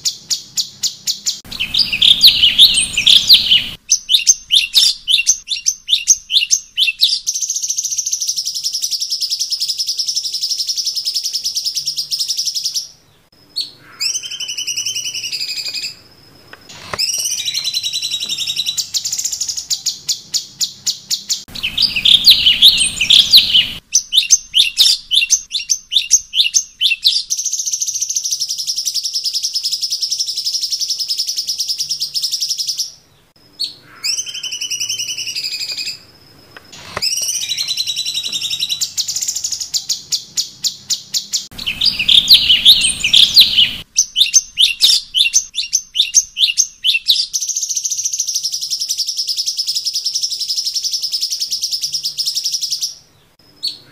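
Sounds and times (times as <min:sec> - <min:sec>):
songbird chirping and trilling: 0:00.0 - 0:53.9.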